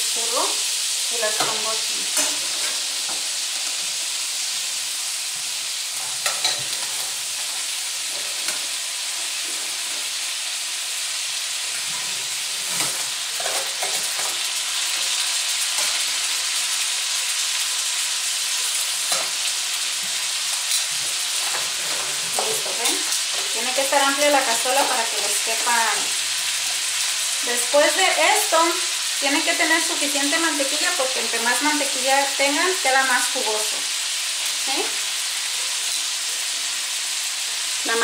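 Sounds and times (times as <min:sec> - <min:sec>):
butter sizzling in a pan: 0:00.0 - 0:38.0.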